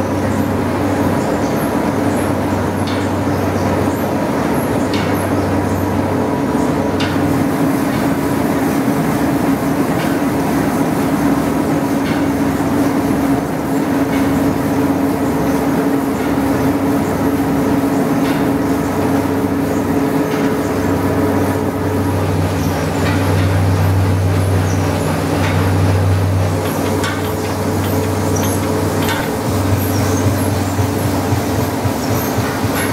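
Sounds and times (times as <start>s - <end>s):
constant machine hum: 0.0s - 32.9s
milling machines clattering: 0.0s - 32.9s.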